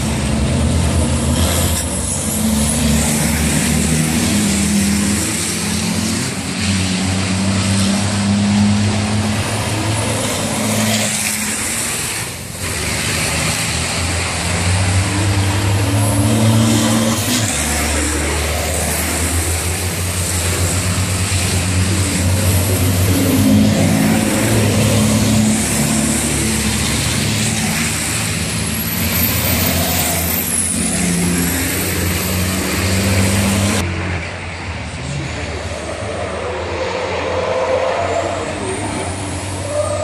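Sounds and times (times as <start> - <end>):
truck diesel engines running hard: 0.0 - 40.0.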